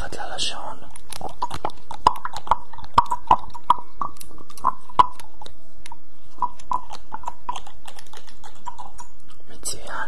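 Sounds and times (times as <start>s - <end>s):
wet mouth noises: 0.8s - 9.8s.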